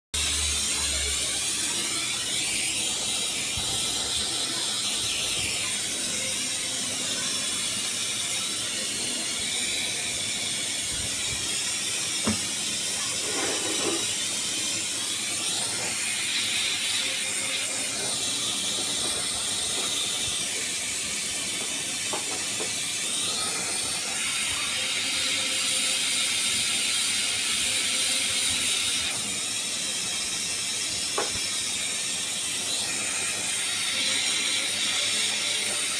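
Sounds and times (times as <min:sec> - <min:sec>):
gas torch flame hissing: 0:00.2 - 0:35.9.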